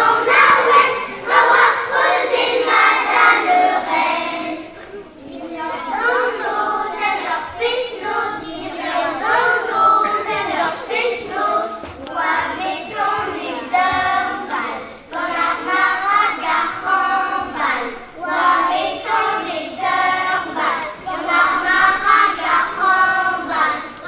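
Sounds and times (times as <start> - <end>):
children singing together: 0.0 - 24.0.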